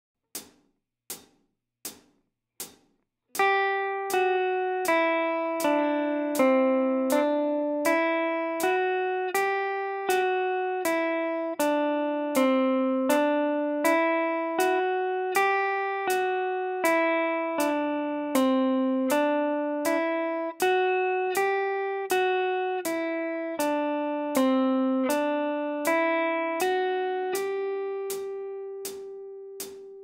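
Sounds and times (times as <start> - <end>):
electric guitar playing a scale: 3.4 - 30.0.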